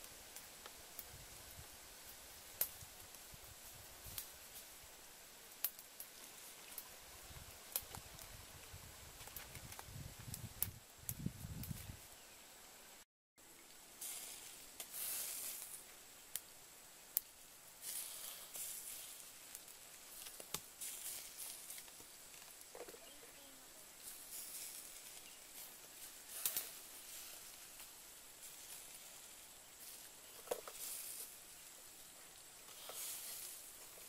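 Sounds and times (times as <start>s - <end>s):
meat sizzling over charcoal: 0.0s - 34.0s.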